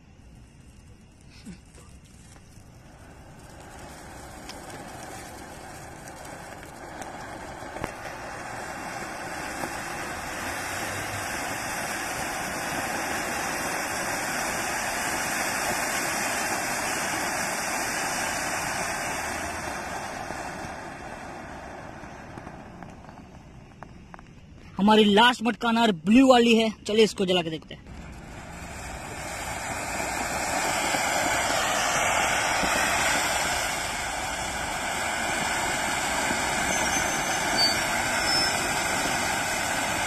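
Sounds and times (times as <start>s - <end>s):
fountain firework hissing: 0.0s - 40.0s
sharp crackles: 0.0s - 40.0s.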